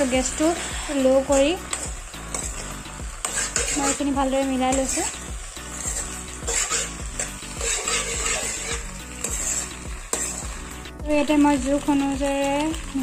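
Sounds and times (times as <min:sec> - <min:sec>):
spoon scraping a pan: 0:00.0 - 0:12.8
food sizzling: 0:00.0 - 0:13.0.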